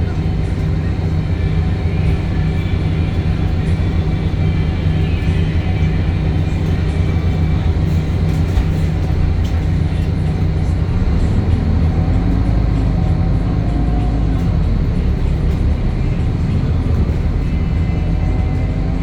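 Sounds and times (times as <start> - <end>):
bus engine drone: 0.0 - 19.0
faint shifting whine: 0.0 - 19.0.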